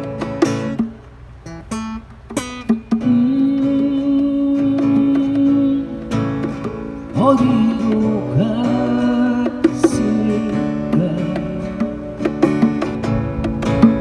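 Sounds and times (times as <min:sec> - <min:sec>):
acoustic guitar picked and strummed: 0:00.0 - 0:14.0.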